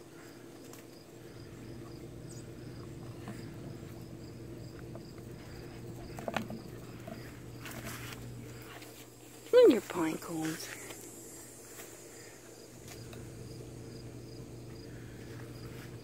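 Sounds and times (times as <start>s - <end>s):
crickets chirping: 0.0s - 16.0s
steady low hum: 0.0s - 16.0s.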